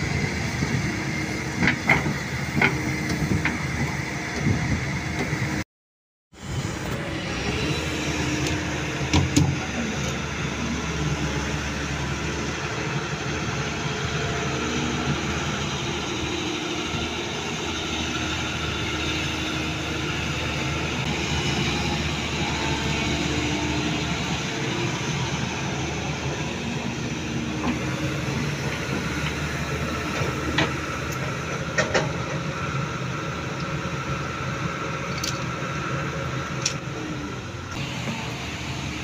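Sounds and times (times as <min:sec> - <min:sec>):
excavator diesel engine running: 0:00.0 - 0:05.6, 0:06.4 - 0:39.0.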